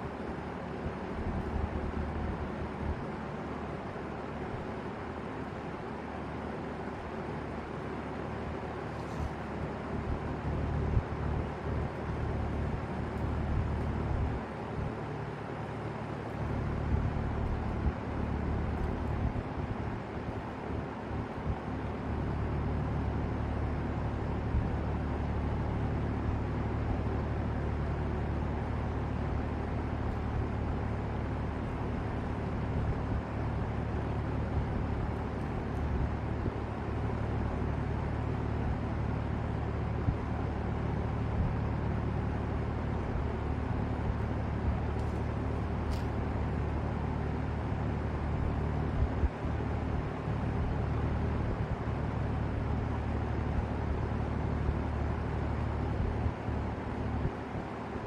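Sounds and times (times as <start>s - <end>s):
box fan running: 0.0s - 58.0s.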